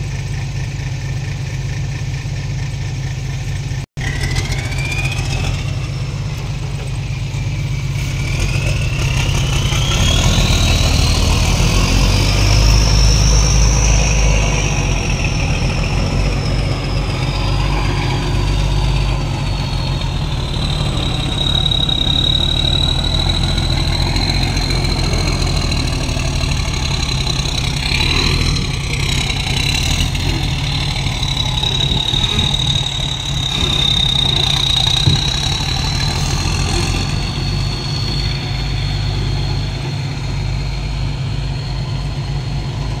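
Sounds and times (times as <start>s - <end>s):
heavy diesel engine rumbling: 0.0s - 43.0s
high-pitched whine: 2.6s - 43.0s.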